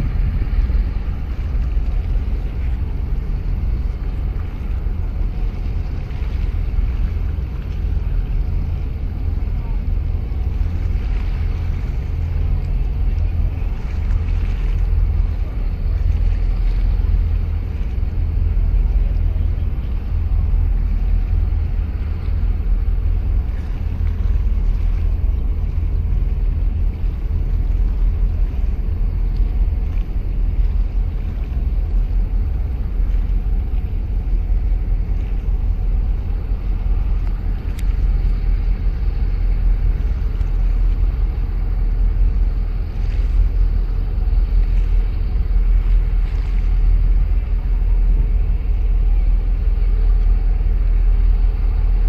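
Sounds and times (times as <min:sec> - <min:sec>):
boat engine rumbling: 0:00.0 - 0:52.0
water splashing: 0:00.0 - 0:52.0
wind noise on microphone: 0:00.0 - 0:52.0.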